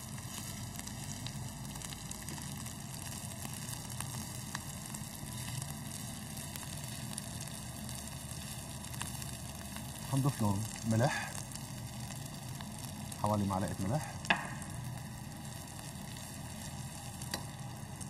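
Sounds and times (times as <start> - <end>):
rice frying in oil: 0.0 - 18.0.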